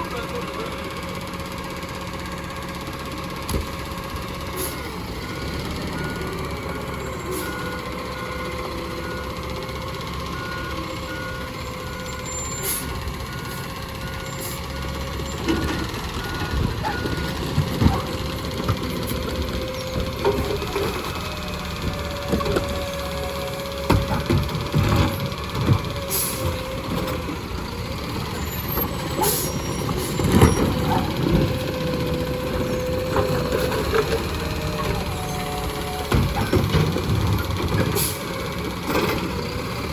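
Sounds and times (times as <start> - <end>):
truck engine rumble: 0.0 - 39.9
truck backup alarm beeping: 0.4 - 39.9.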